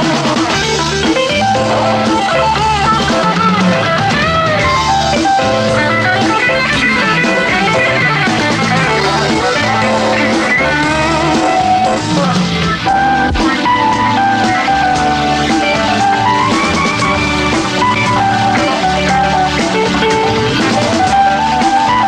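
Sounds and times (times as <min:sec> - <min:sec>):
electric guitar lead with gliding notes: 0:00.0 - 0:22.0
rock band playing: 0:00.0 - 0:22.0.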